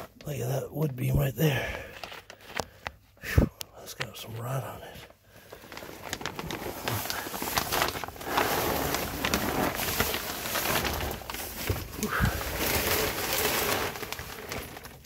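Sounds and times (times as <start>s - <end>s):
plastic sheeting crinkling: 0.0s - 3.0s, 3.8s - 15.0s.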